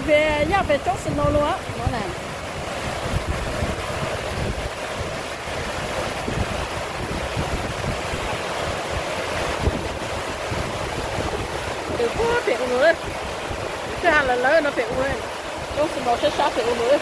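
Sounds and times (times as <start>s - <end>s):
steady rushing noise: 0.0s - 17.0s
wind buffeting microphone: 0.0s - 17.0s.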